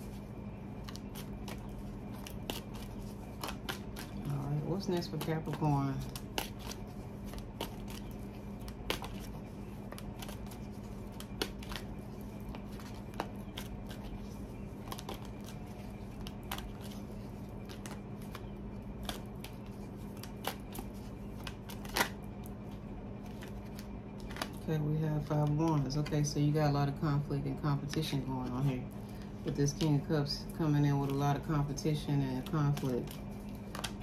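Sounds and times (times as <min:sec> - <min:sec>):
cards being shuffled: 0:00.0 - 0:24.6, 0:30.9 - 0:34.0
steady low hum: 0:00.0 - 0:34.0.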